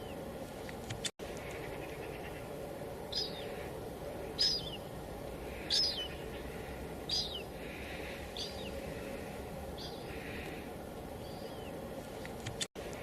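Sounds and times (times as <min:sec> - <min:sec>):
light drizzle hiss: 0:00.0 - 0:13.0.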